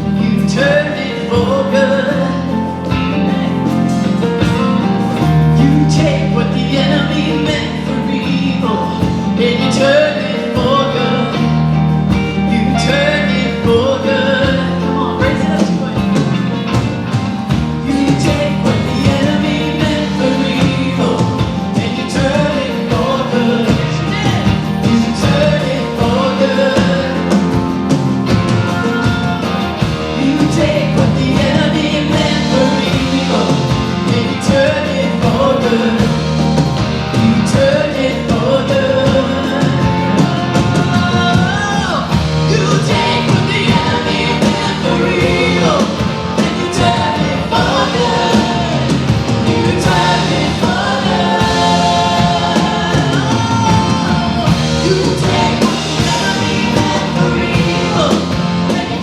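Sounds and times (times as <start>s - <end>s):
person singing: 0.0s - 59.0s
rock band playing: 0.0s - 59.0s.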